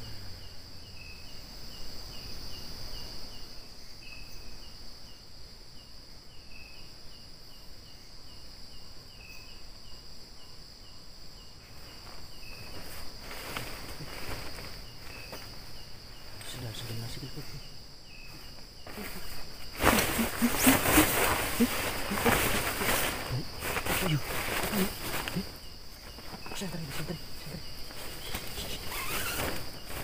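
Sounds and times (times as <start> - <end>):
insects trilling and chirping: 0.0 - 30.0.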